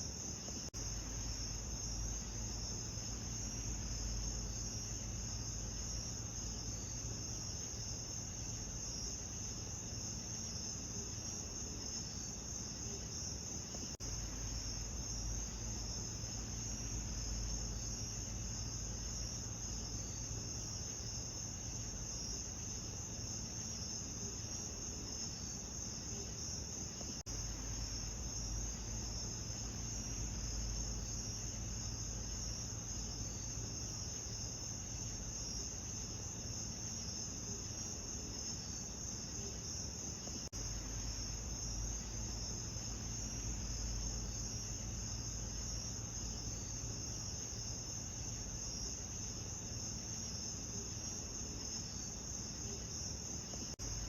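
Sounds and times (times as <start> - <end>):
crickets chirring: 0.0 - 54.0
low rumbling hiss: 0.0 - 54.0.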